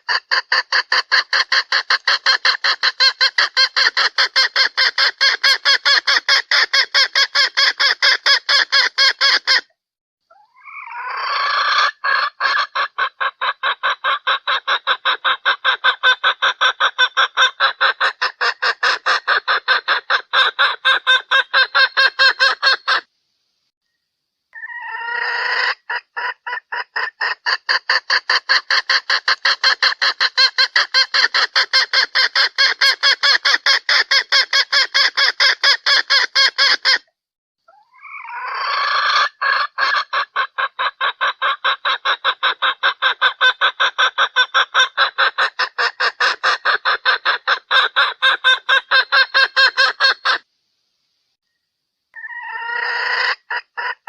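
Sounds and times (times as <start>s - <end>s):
hen clucking rapidly: 0.0s - 9.6s, 10.3s - 23.1s, 24.6s - 37.0s, 37.7s - 50.5s, 52.2s - 54.0s
drawn-out hen call: 0.0s - 9.7s, 10.3s - 23.1s, 24.5s - 37.1s, 37.7s - 50.5s, 52.1s - 54.0s.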